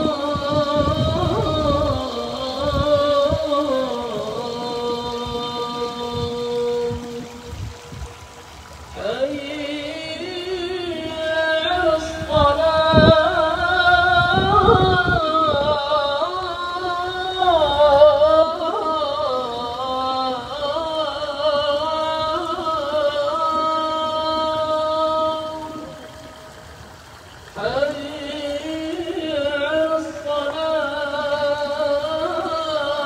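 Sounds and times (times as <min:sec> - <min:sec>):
solo voice chanting: 0:00.0 - 0:07.8, 0:08.9 - 0:26.7, 0:27.5 - 0:33.0.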